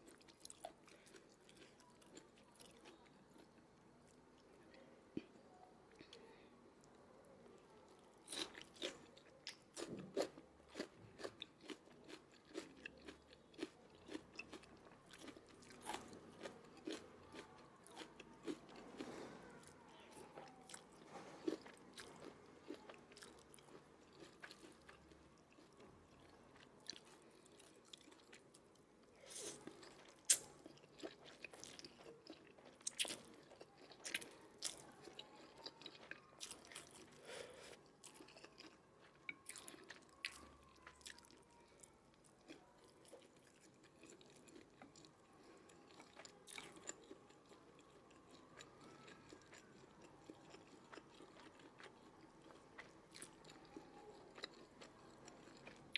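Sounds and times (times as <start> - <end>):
person chewing crunchy food: 0.0 - 4.2, 8.2 - 55.9.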